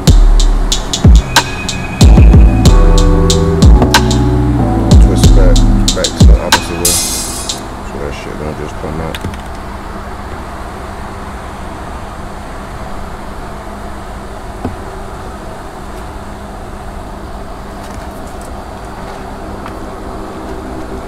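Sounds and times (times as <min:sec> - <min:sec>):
mechanical hum with low drone: 0:00.0 - 0:21.0.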